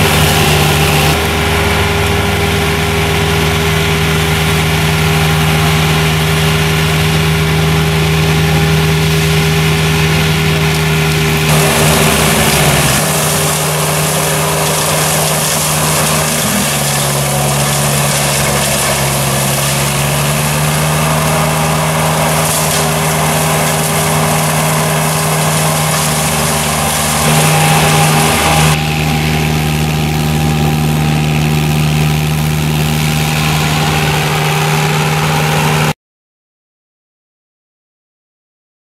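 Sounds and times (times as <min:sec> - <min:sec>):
mulcher engine droning: 0:00.0 - 0:36.0.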